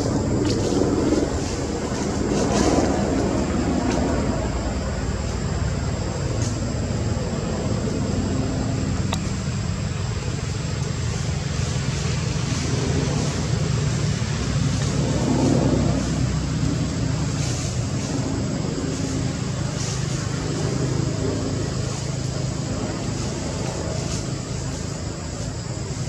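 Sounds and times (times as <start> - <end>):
high hiss: 0.0 - 26.0
low mechanical hum: 0.0 - 26.0.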